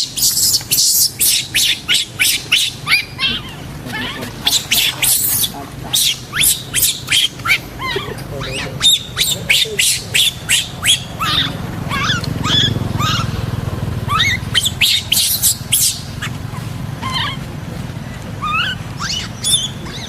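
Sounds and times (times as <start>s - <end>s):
monkeys squeaking and chirping: 0.0s - 20.0s
steady low hum: 0.0s - 20.0s.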